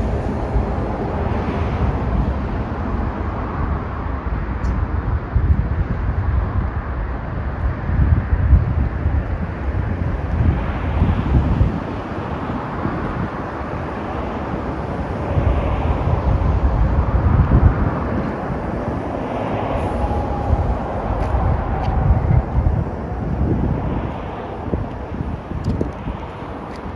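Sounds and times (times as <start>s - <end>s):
low rumble: 0.0s - 26.9s
vehicles passing on highway: 0.0s - 26.9s.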